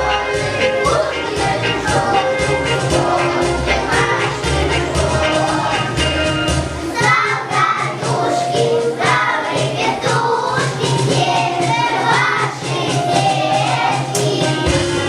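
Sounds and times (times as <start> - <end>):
children singing in chorus: 0.0 - 15.0
instrumental music with steady beat: 0.0 - 15.0.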